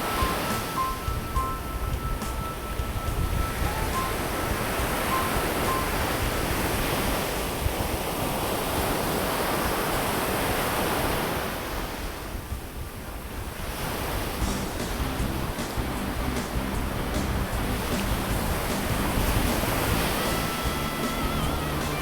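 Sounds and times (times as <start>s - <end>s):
ocean surf washing onto beach: 0.0s - 22.0s
wind rumbling on microphone: 0.0s - 22.0s.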